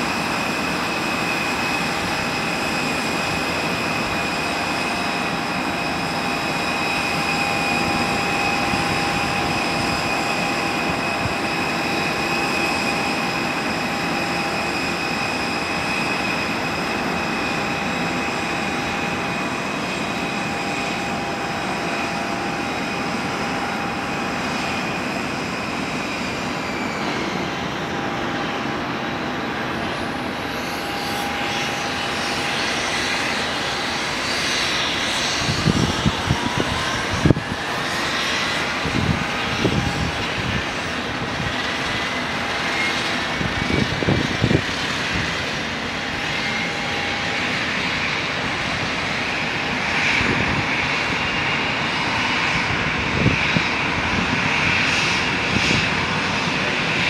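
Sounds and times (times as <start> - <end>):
jet engine running: 0.0 - 57.0
rising engine whine: 0.0 - 57.0.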